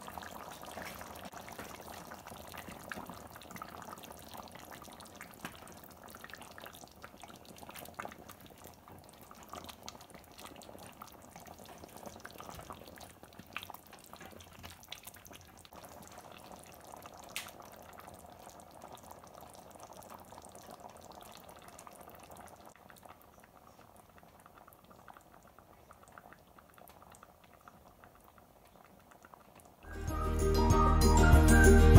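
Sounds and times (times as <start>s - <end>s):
curry bubbling in a pot: 0.0s - 29.9s.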